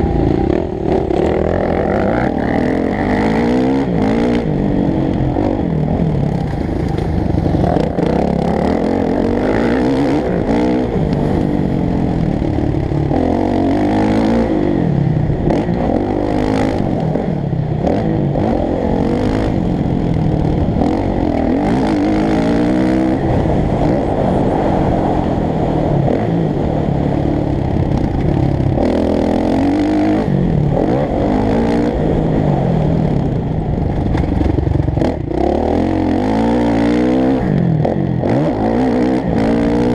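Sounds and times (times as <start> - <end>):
dirt bike engine revving: 0.0 - 25.3, 27.8 - 39.9.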